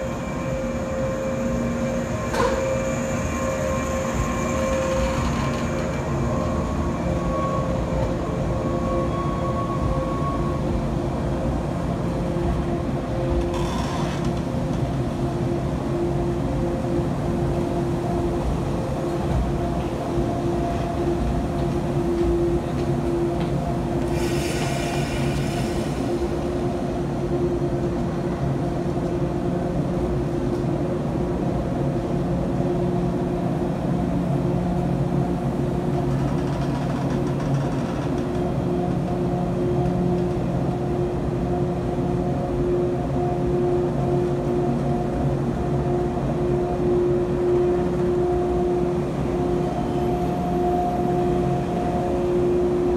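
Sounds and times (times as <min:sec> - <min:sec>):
electric train equipment humming: 0:00.0 - 0:52.9.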